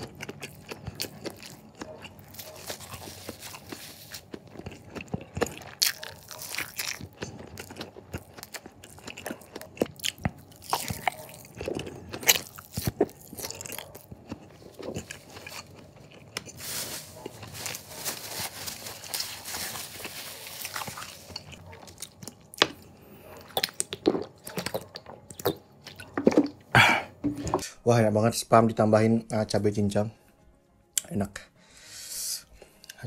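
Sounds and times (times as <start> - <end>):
person chewing and crunching: 0.0 - 27.1.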